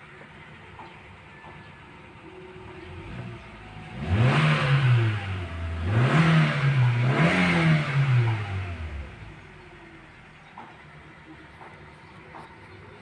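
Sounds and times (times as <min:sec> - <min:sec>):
car engine revving: 0:01.9 - 0:13.0.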